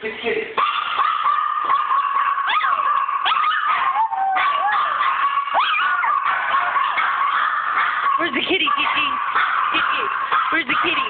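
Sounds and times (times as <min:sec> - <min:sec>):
small dog howling and yelping: 0:00.6 - 0:11.0.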